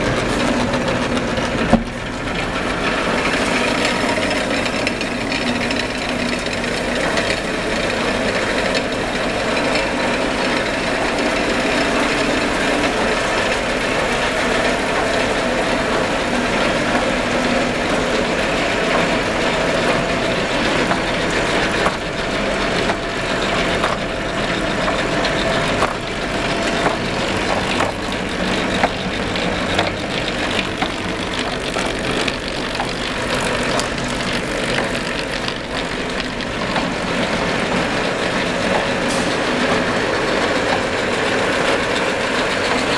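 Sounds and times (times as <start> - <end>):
dense mechanical clatter: 0.0 - 42.9.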